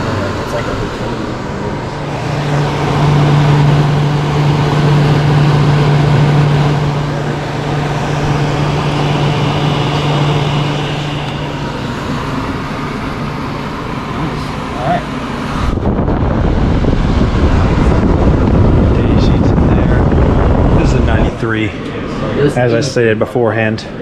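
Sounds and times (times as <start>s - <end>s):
air conditioner running: 0.0s - 24.0s.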